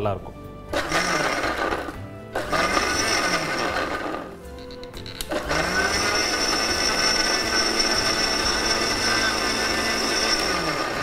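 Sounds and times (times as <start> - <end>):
mixer grinder motor blending: 0.7 - 11.0.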